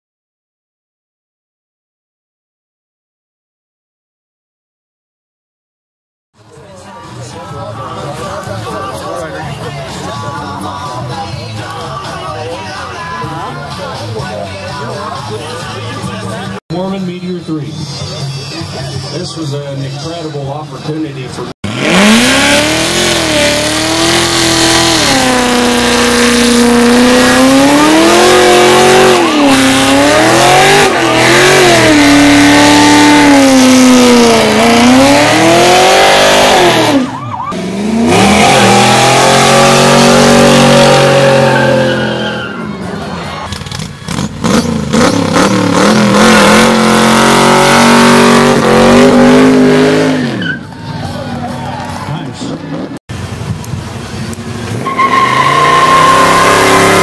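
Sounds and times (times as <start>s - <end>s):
car engines revving: 6.4s - 19.0s, 19.8s - 57.0s.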